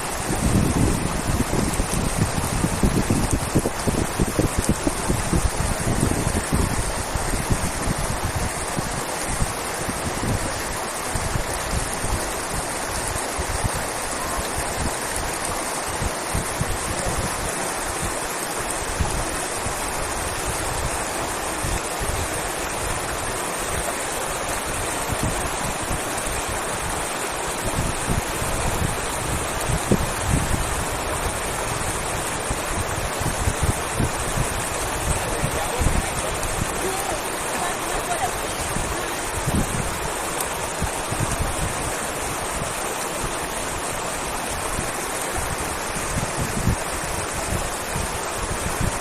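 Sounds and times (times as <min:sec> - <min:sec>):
fast-flowing river rushing: 0:00.0 - 0:49.0
wind buffeting microphone: 0:00.0 - 0:49.0.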